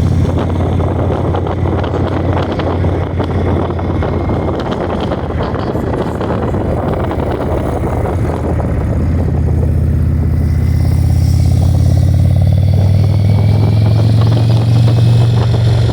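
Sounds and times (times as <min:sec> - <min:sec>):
motorcycle engine running: 0:00.0 - 0:15.9
wind on microphone: 0:00.0 - 0:15.9.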